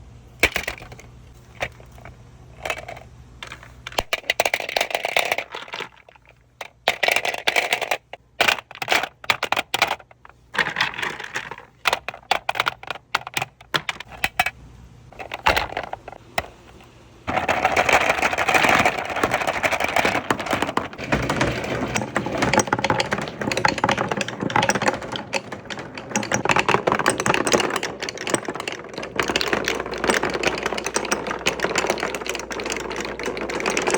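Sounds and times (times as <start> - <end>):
marbles rolling on wooden track: 1.6 - 14.1, 15.2 - 33.9.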